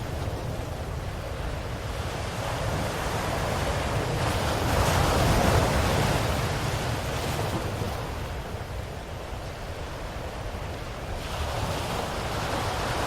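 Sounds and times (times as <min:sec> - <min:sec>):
ocean waves breaking on shore: 0:00.0 - 0:13.0.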